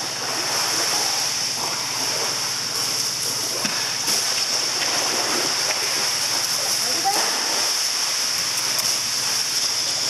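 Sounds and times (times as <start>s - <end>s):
faint splashes: 0.0s - 10.0s
rushing hissing water: 0.0s - 10.0s.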